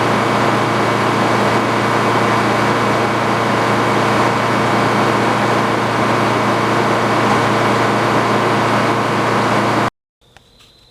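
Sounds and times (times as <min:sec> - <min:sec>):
engine humming: 0:00.0 - 0:09.9.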